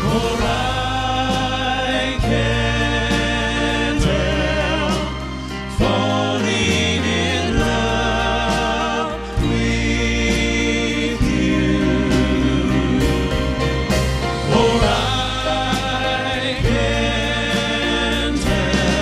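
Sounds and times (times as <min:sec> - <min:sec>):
band of piano bass and drums: 0:00.0 - 0:19.0
male vocal quartet singing: 0:00.0 - 0:19.0.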